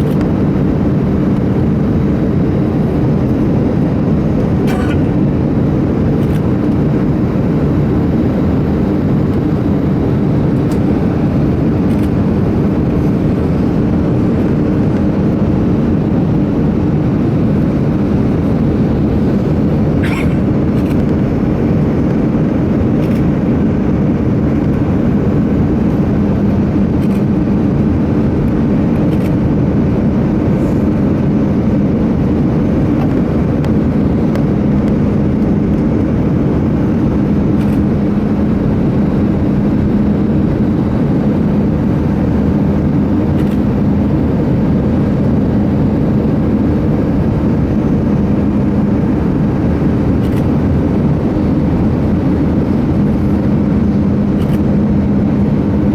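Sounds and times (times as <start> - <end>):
airplane cabin drone: 0.0 - 55.9.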